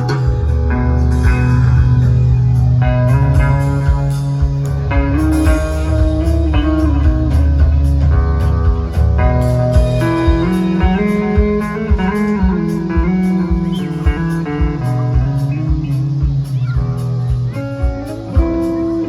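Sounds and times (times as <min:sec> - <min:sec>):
electric guitar lines: 0:00.0 - 0:19.0
heavy bass: 0:00.0 - 0:19.0.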